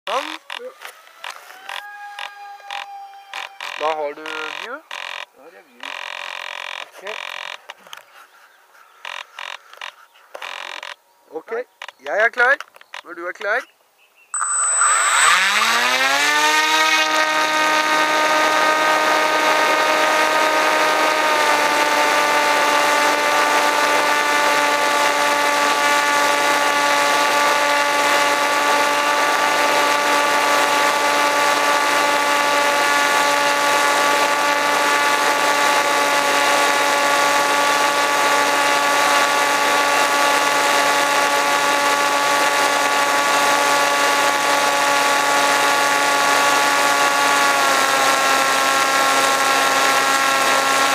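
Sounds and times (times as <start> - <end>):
model plane motor whining: 0.1 - 8.1, 9.0 - 11.0, 14.4 - 50.9.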